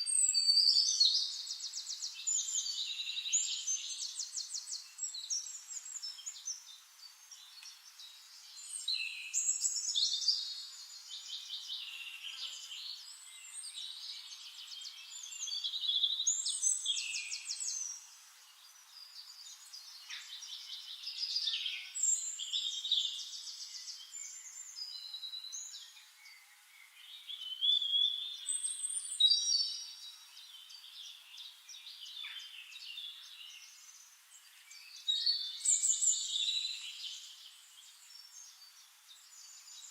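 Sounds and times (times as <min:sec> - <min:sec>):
songbirds singing trills and chirps: 0:00.0 - 0:39.9.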